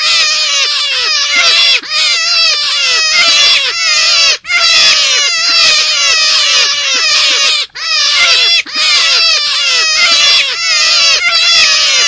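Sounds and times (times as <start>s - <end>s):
rabbit squealing calls: 0.0s - 12.0s.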